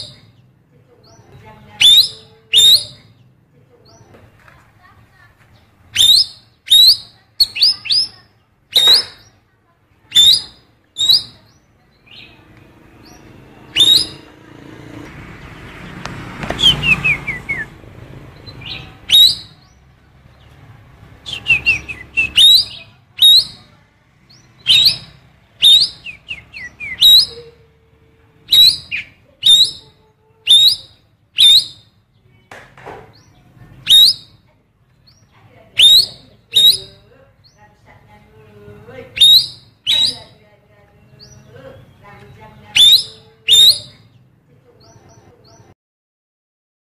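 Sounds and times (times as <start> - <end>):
bird singing sharp upward calls: 0.0 - 4.1, 5.6 - 27.7, 28.4 - 32.5, 33.1 - 37.8, 39.0 - 45.8.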